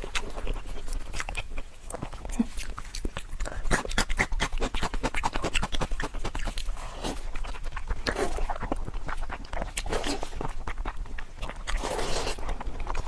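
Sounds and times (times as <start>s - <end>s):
lips smacking and sucking: 0.0s - 13.0s.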